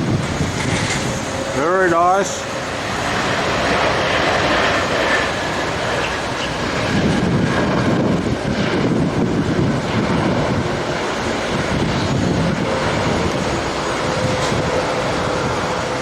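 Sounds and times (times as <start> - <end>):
jet engines rushing: 0.0 - 16.0
wind buffeting microphone: 0.0 - 16.0.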